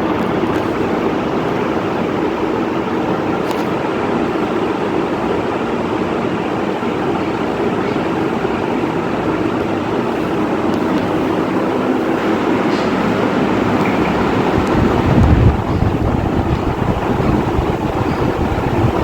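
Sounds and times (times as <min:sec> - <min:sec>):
ceiling fan running: 0:00.0 - 0:19.0.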